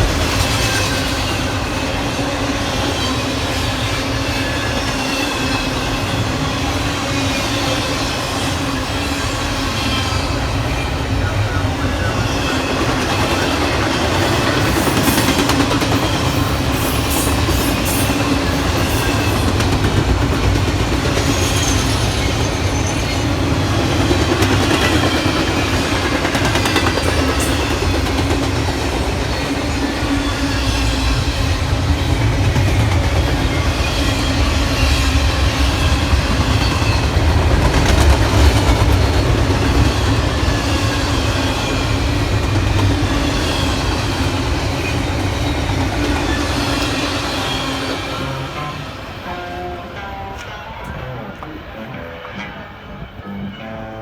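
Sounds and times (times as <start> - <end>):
clickety-clack over rail joints: 0.0 - 53.2
train wheels rumbling on rails: 0.0 - 54.0.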